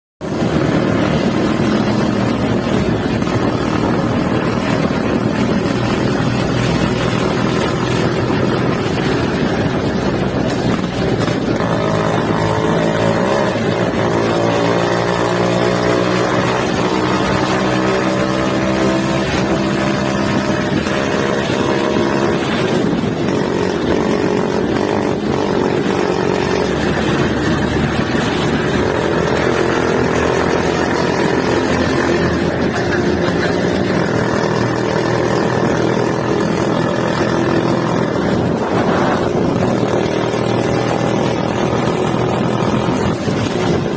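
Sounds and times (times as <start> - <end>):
scooter engine running: 0.2 - 43.9.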